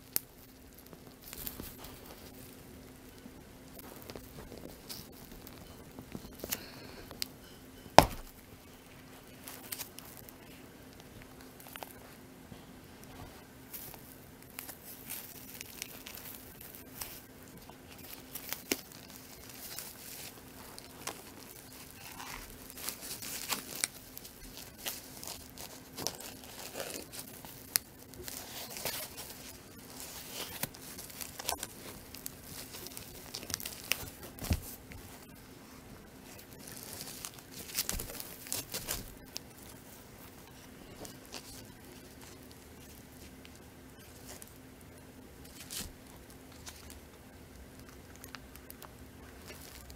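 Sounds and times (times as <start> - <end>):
foam wrap and paper crinkling: 0.0 - 49.9.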